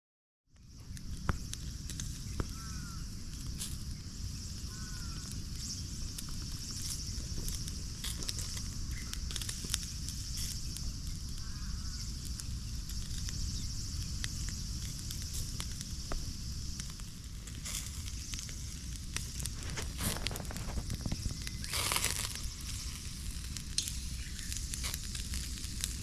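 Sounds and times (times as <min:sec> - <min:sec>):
high-pitched hiss: 0:00.6 - 0:26.0.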